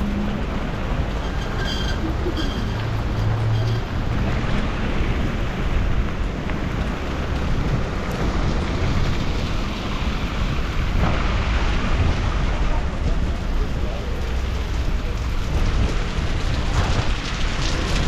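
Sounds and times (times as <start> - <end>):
rain: 0.0 - 18.0
vehicle engine rumble: 0.0 - 18.0
wind noise on microphone: 0.0 - 18.0.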